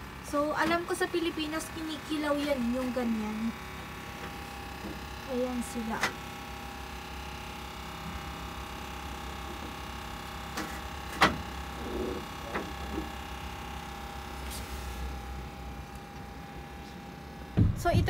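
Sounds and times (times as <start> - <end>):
small motor humming: 0.0 - 17.8.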